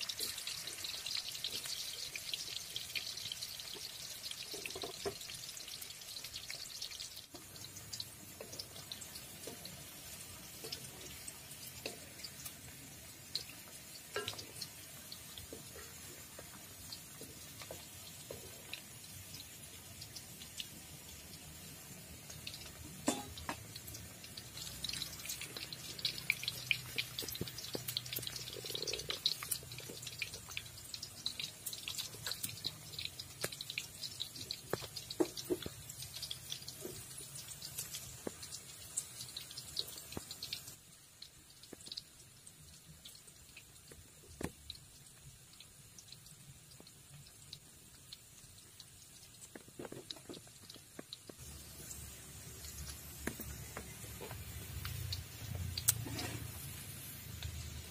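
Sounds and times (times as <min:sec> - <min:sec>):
hot oil crackling: 0:00.0 - 0:57.9.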